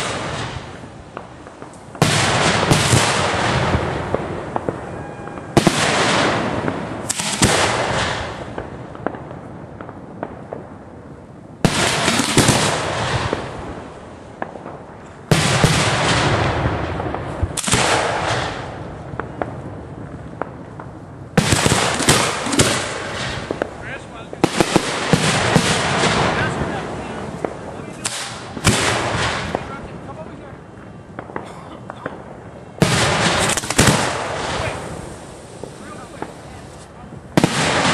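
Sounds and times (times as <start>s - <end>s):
firework booms: 0.0s - 37.9s
firework crackle: 0.0s - 37.9s.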